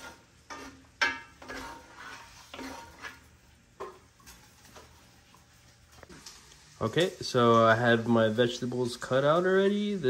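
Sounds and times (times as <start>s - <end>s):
meat stir-frying: 0.0s - 10.0s
utensil scraping cooking pan: 0.0s - 10.0s.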